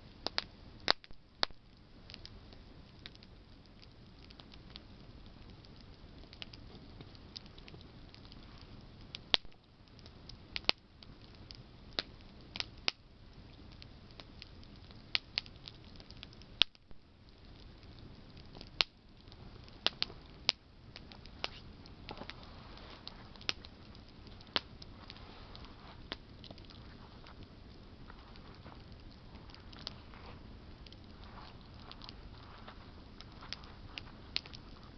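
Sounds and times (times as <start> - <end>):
campfire crackling and popping: 0.0 - 34.9
hiss of flames: 0.1 - 34.9.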